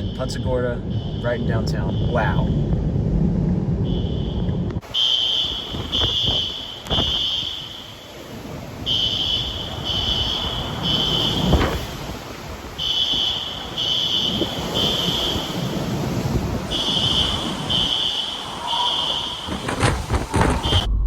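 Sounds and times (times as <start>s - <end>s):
fire alarm beeping: 0.0s - 2.7s, 3.8s - 12.2s, 12.8s - 20.9s
rushing wind: 0.0s - 21.0s.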